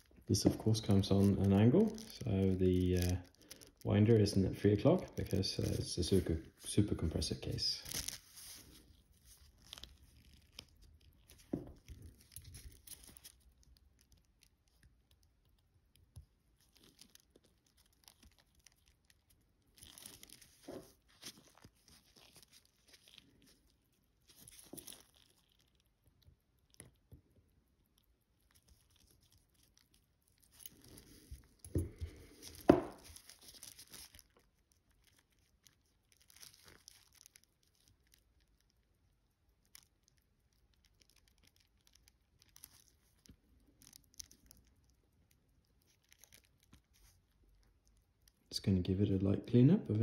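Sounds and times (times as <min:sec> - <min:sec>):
soft rustles: 0:00.0 - 0:14.9, 0:16.2 - 0:27.3, 0:27.9 - 0:38.7, 0:40.8 - 0:48.4.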